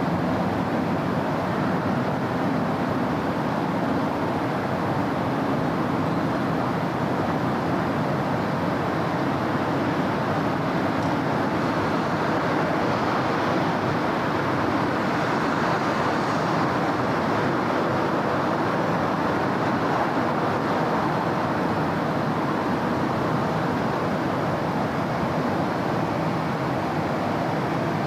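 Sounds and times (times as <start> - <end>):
city traffic noise: 0.0 - 28.0.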